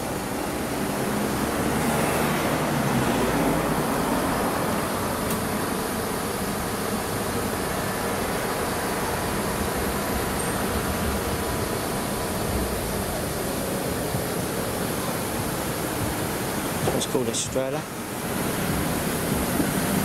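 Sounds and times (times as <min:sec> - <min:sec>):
steady traffic hum: 0:00.0 - 0:20.0
vehicle engine passing: 0:00.0 - 0:20.0.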